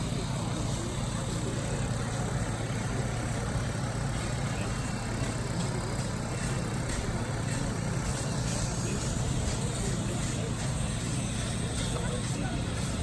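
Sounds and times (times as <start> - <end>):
engine droning steadily: 0.0 - 13.0.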